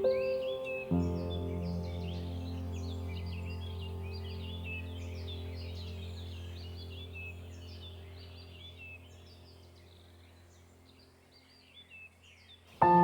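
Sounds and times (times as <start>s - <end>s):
soft ambient music drone: 0.0s - 11.7s
birdsong chirping: 0.0s - 13.0s.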